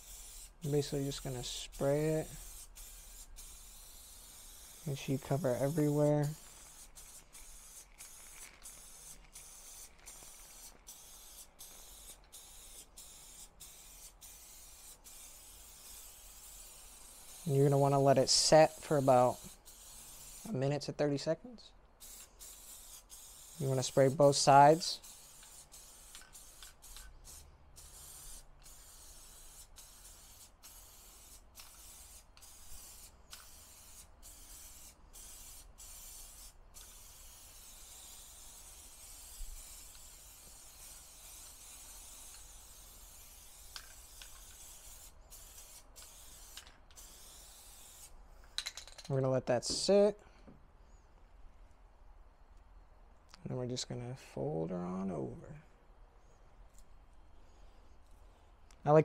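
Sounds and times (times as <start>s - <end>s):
aerosol spray hissing: 0.0s - 20.7s, 22.0s - 48.6s.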